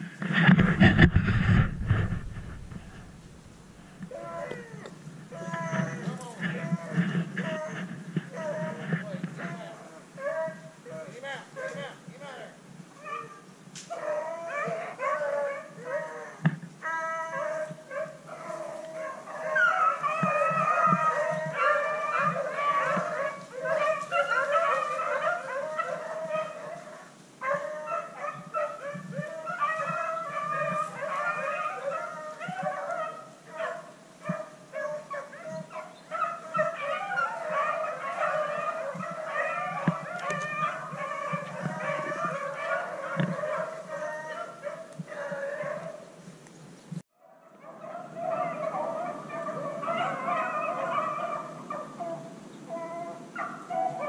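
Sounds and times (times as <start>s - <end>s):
dogs baying and howling: 3.9s - 11.9s, 13.0s - 46.2s, 47.2s - 54.0s.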